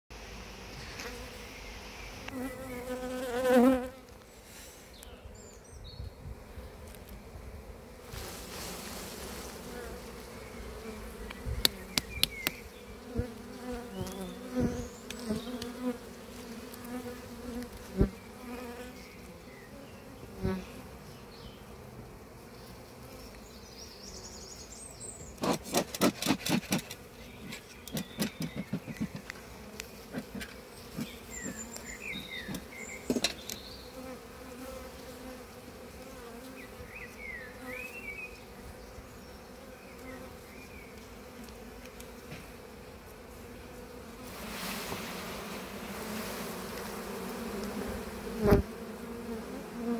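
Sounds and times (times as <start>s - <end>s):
honey bees buzzing: 0.1s - 49.9s.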